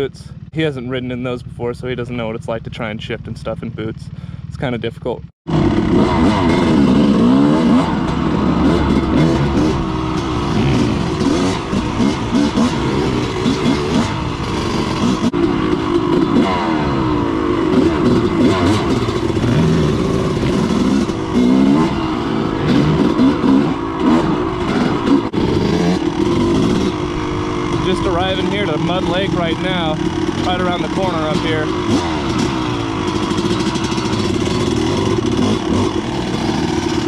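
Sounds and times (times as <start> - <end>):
dirt bike engine revving: 5.5 - 37.0.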